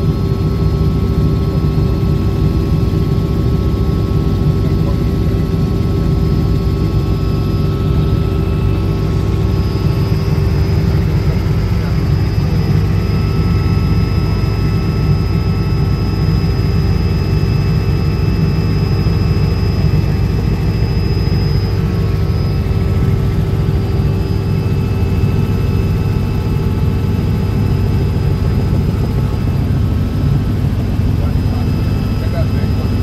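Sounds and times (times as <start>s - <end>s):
helicopter rotor and engine drone: 0.0s - 33.0s.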